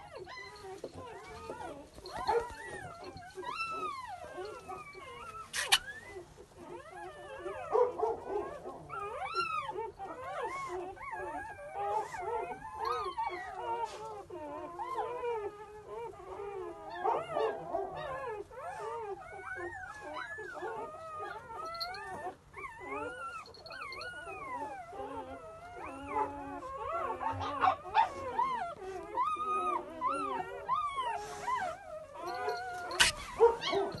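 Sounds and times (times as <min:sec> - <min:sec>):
newborn puppies crying and squealing: 0:00.0 - 0:34.0.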